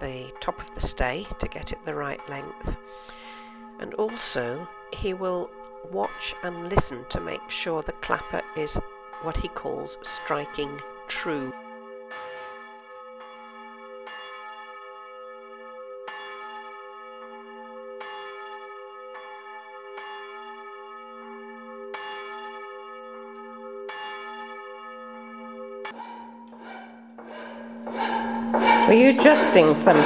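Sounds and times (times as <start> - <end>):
church bell ringing: 0.0 - 30.0.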